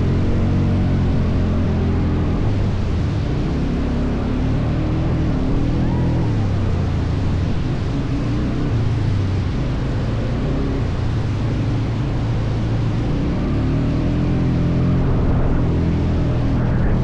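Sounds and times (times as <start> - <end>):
quad bike engine running: 0.0 - 17.0
wind or road noise: 0.0 - 17.0.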